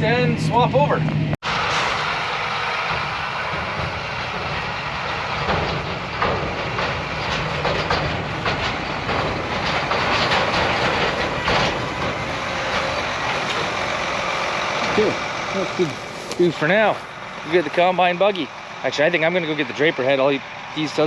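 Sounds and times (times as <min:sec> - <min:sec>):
engine running: 0:00.0 - 0:21.0
rattling clatter of machinery: 0:01.0 - 0:21.0.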